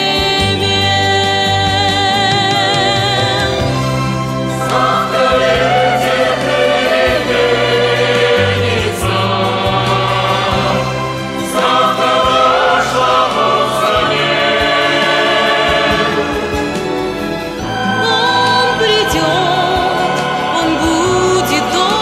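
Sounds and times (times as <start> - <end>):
wordless choir-like voices: 0.0 - 22.0
sustained bass notes: 0.5 - 22.0.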